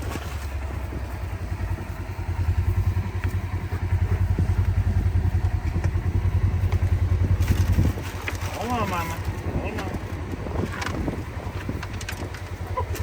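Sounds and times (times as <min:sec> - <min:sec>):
vehicle engine pulsing rumble: 0:00.0 - 0:13.0.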